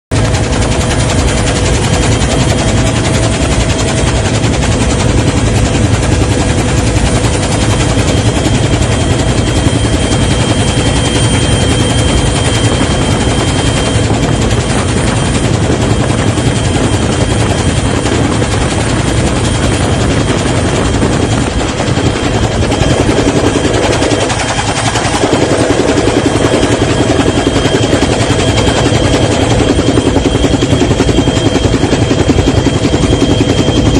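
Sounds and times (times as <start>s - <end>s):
steady machine whine: 0.1s - 33.9s.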